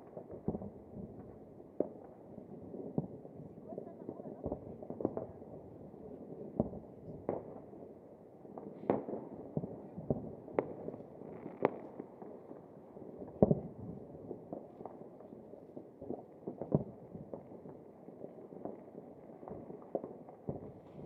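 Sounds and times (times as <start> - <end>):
fireworks bangs and pops: 0.0 - 7.9, 8.5 - 21.0.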